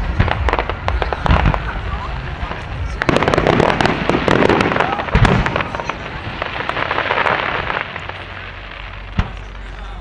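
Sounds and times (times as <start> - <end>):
firework boom: 0.0 - 9.6
fireworks crackling: 0.0 - 10.0.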